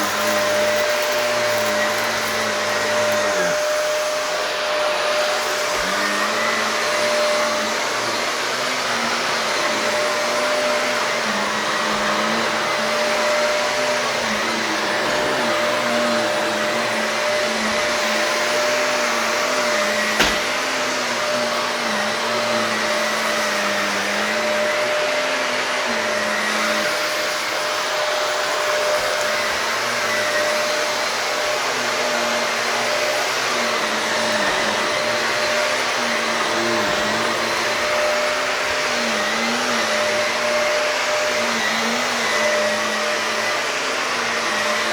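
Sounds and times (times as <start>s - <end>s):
vacuum cleaner on carpet: 0.0s - 44.9s.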